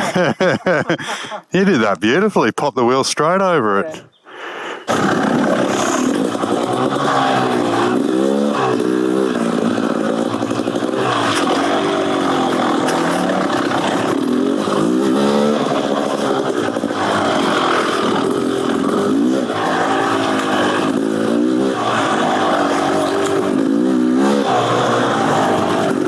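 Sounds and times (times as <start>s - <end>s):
dirt bike engine revving: 4.9s - 26.0s.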